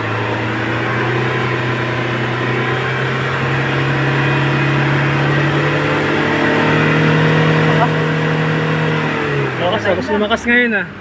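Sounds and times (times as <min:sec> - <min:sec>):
diesel engine revving high: 0:00.0 - 0:11.0.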